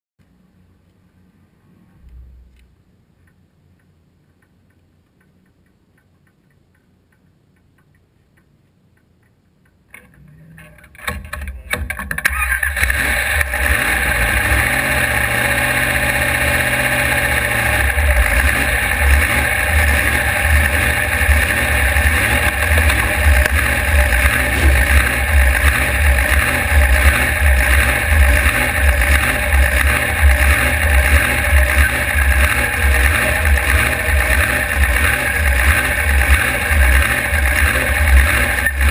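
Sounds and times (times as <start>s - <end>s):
race car engine starting and idling: 1.7s - 5.5s, 9.2s - 38.9s.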